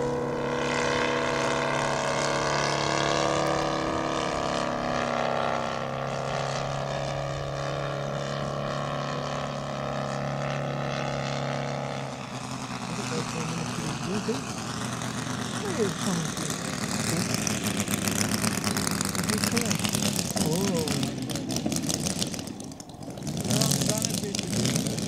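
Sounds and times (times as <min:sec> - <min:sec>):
model airplane engine droning: 0:00.0 - 0:25.0.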